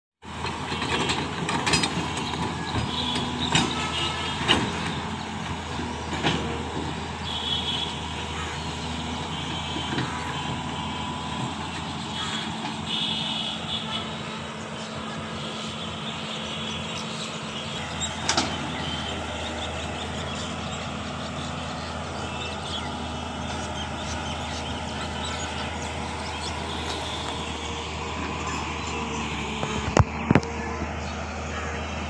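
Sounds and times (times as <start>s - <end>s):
excavator diesel engine running: 0.2s - 32.0s.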